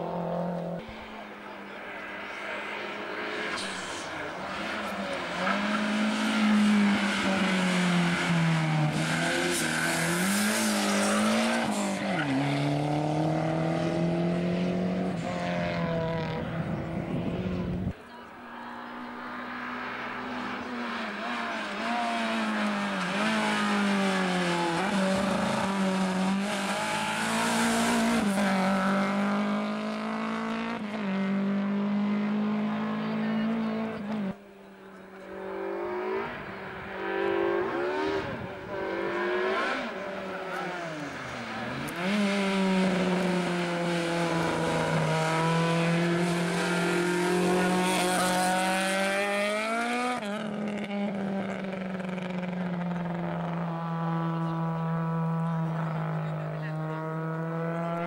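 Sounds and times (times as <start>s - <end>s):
rally car engines revving past: 0.0s - 58.0s.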